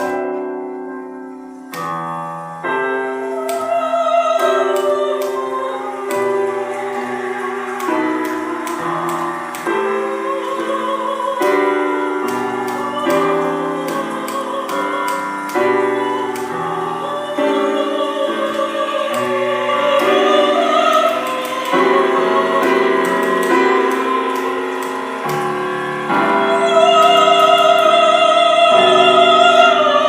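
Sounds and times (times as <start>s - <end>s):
soprano singing operatic line: 0.0s - 0.6s, 2.6s - 30.0s
piano chords: 0.0s - 30.0s.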